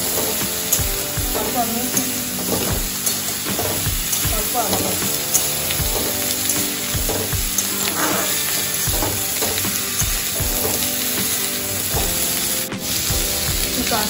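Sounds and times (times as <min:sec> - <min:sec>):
stirring strokes in pan: 0:00.0 - 0:14.0
vegetables sizzling in oil: 0:00.0 - 0:14.0.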